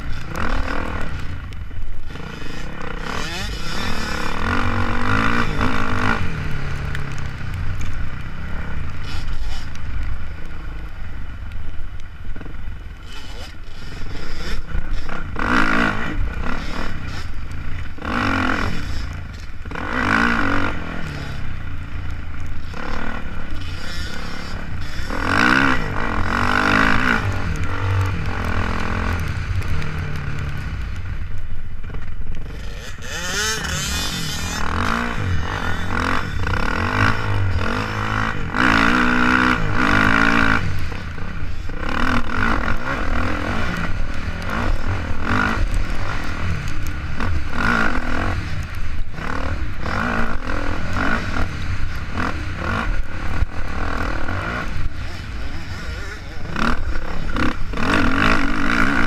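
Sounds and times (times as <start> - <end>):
dirt bike engine revving: 0.0 - 11.4, 12.0 - 59.0.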